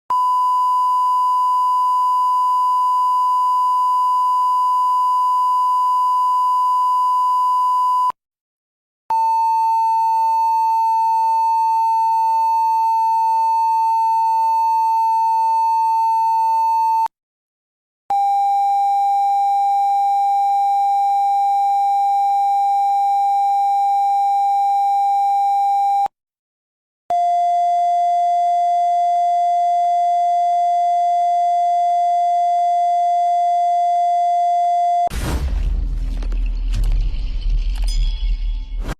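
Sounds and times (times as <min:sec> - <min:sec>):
long censor beeps: 0:00.1 - 0:08.2, 0:09.1 - 0:17.1, 0:18.1 - 0:26.1, 0:27.1 - 0:35.1.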